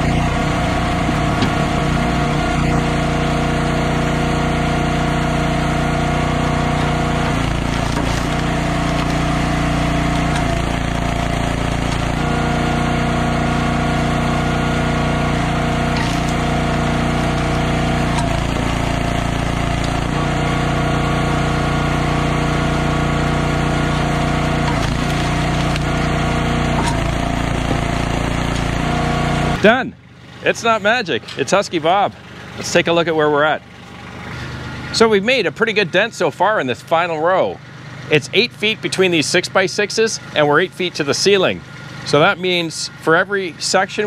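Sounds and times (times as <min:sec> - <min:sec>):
hydraulic wood splitter running: 0:00.0 - 0:44.0.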